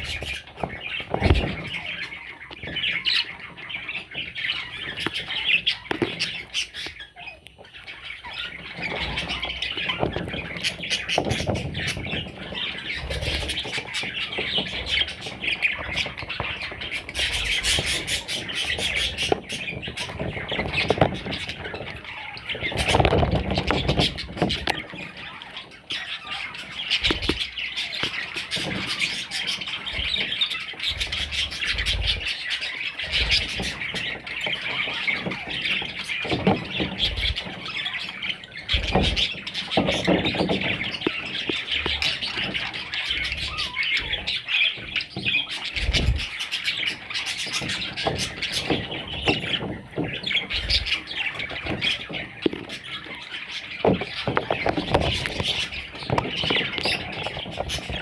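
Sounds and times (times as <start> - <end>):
budgerigar chicks calling: 0.0 - 58.0.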